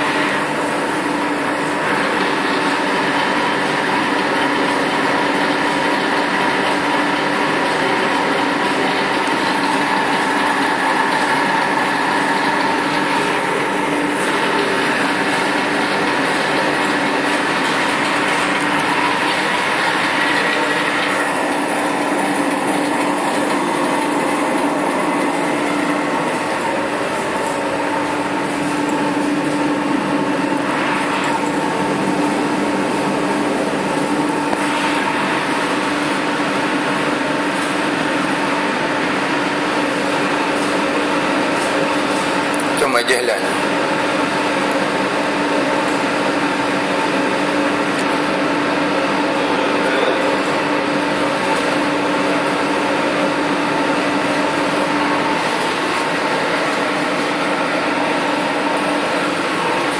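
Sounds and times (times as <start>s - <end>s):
machine drive drone and whine: 0.0s - 59.9s.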